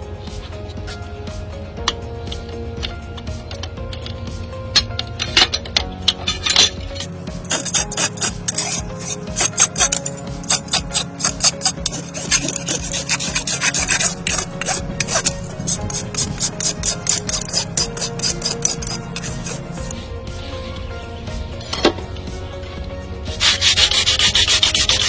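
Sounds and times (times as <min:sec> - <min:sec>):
background music: 0:00.0 - 0:25.0
hoof rasp filing hoof: 0:00.2 - 0:22.4, 0:23.3 - 0:25.0.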